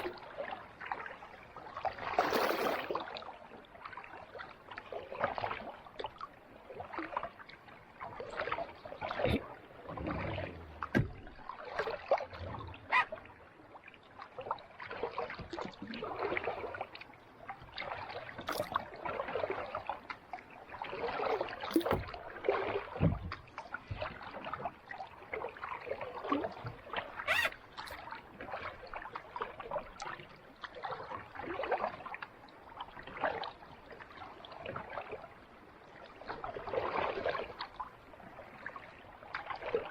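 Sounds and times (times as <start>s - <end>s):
paddle strokes splashing: 0.0s - 35.3s, 35.9s - 39.9s.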